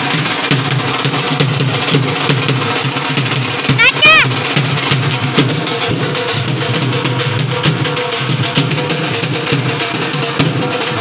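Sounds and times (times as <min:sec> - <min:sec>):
music with steady drumbeat: 0:00.0 - 0:11.0.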